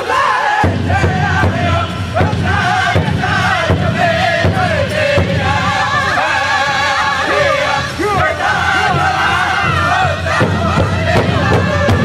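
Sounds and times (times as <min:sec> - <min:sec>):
group singing in high voices: 0:00.0 - 0:12.0
large drum steady beat: 0:00.6 - 0:12.0.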